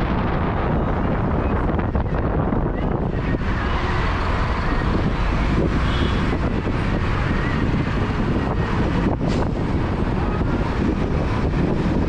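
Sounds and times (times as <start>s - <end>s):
car engine and road noise: 0.0s - 12.0s
wind buffeting microphone: 0.0s - 12.0s.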